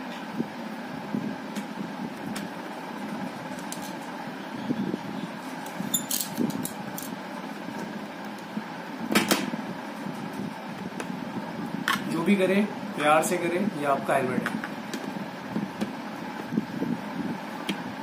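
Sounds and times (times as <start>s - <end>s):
fan-like room hum: 0.0s - 18.0s.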